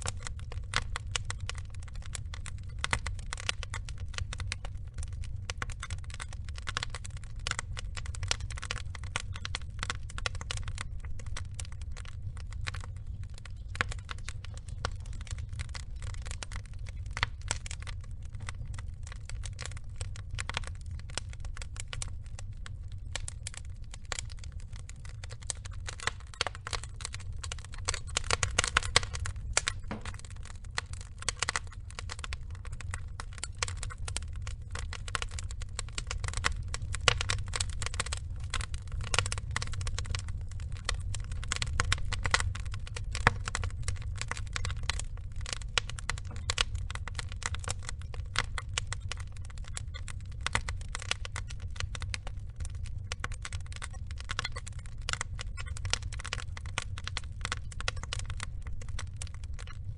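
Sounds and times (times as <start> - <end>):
burning logs crackling: 0.0 - 59.9
low steady rumble: 0.0 - 59.9.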